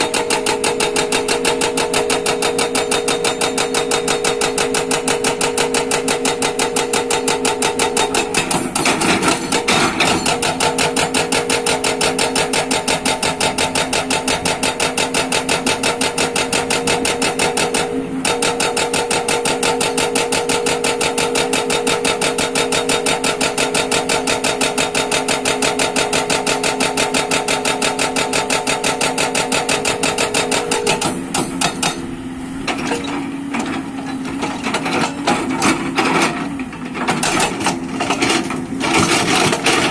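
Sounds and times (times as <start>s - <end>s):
excavator engine drone: 0.0s - 39.9s
hydraulic breaker hammering rock: 0.0s - 39.9s.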